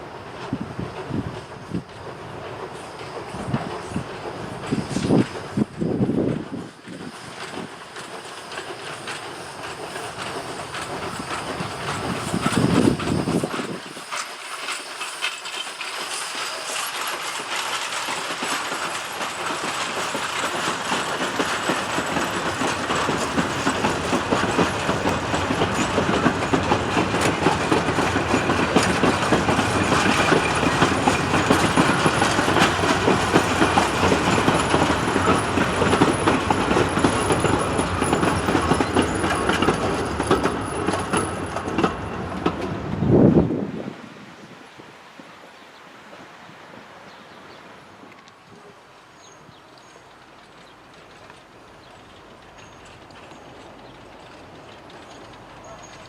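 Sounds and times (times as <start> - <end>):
train wheels clattering on rails: 0.0 - 43.6, 46.1 - 56.0.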